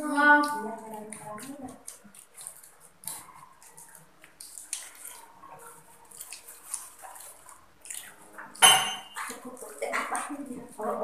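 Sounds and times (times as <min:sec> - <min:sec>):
children chewing food: 0:00.0 - 0:11.0.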